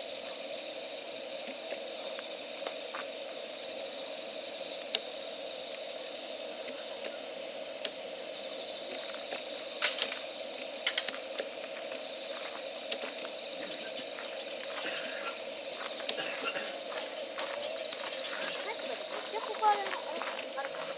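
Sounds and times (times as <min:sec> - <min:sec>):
campfire hiss: 0:00.0 - 0:20.9
campfire crackles and pops: 0:01.2 - 0:03.5, 0:04.1 - 0:20.9.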